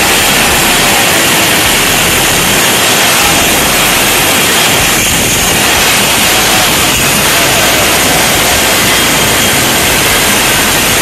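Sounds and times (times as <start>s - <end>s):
angle grinder cutting sheet: 0.0s - 11.0s.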